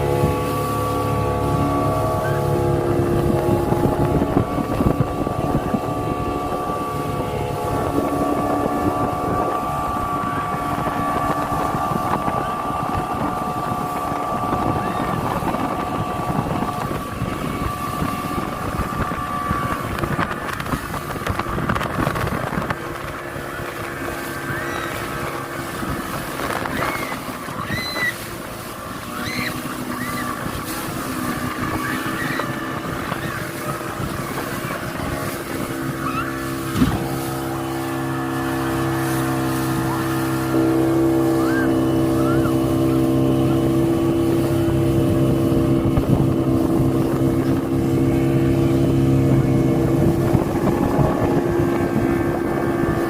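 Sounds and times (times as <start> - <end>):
motorboat engine running: 0.0 - 53.0
water rushing: 0.0 - 53.0
wind noise on microphone: 0.0 - 53.0.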